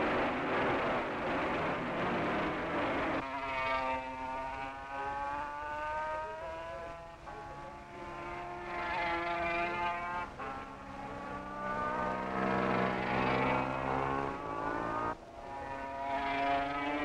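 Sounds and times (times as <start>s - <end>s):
racing motorcycle engine revving: 0.0s - 17.0s.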